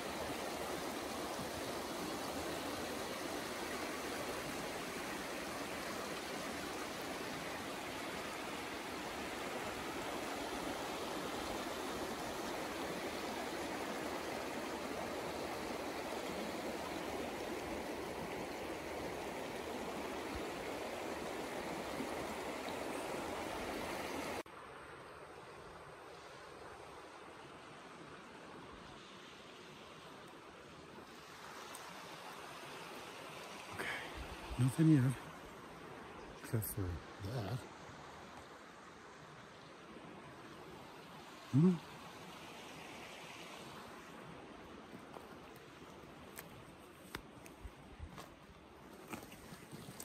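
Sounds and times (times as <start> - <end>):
river rushing over stones: 0.0 - 25.0, 25.6 - 50.0.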